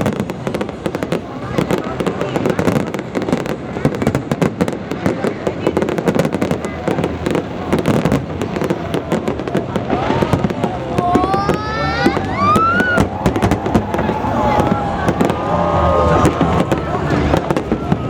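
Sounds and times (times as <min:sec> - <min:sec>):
fireworks crackling and banging: 0:00.0 - 0:18.0
fireworks whistling: 0:00.0 - 0:18.0.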